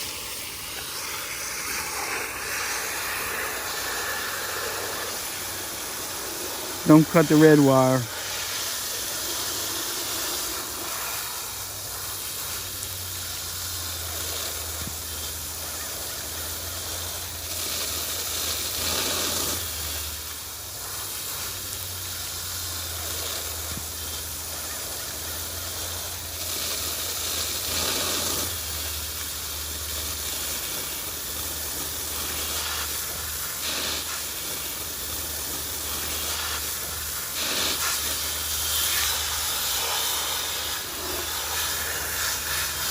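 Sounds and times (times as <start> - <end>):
water spraying hiss: 0.0 - 42.9.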